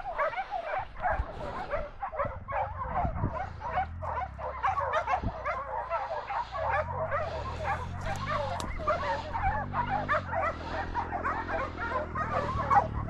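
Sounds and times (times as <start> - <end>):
hounds baying: 0.0 - 13.0
dirt bike idling: 2.4 - 13.0.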